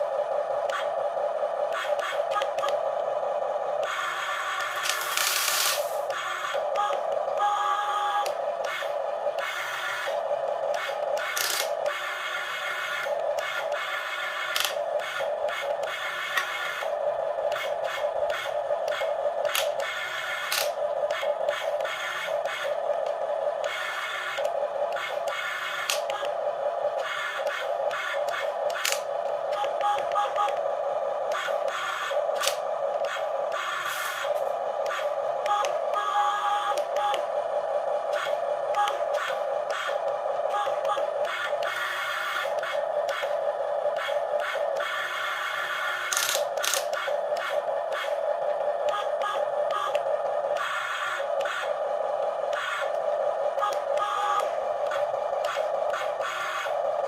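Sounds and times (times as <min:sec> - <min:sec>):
toy excavator motors whirring: 0:03.8 - 0:16.9, 0:17.5 - 0:26.4, 0:27.0 - 0:30.6, 0:31.3 - 0:37.3, 0:38.1 - 0:48.2, 0:48.9 - 0:51.8, 0:53.6 - 0:56.8.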